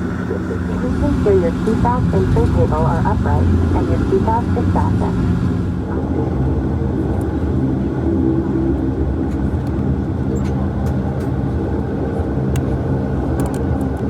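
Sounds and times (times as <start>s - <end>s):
turboprop engines droning in cabin: 0.0s - 14.0s.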